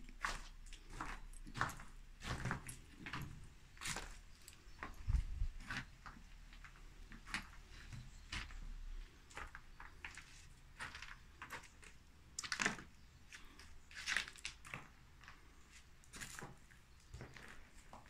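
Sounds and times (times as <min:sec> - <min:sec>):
footsteps crunching on grit: 0:00.0 - 0:12.0, 0:12.8 - 0:18.0.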